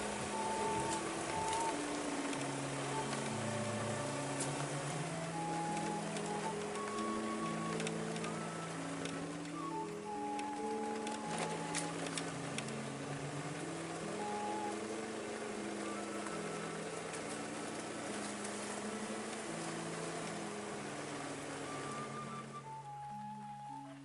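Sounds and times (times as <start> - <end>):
music of long held notes: 0.0 - 24.0
steady rushing noise: 0.0 - 24.0.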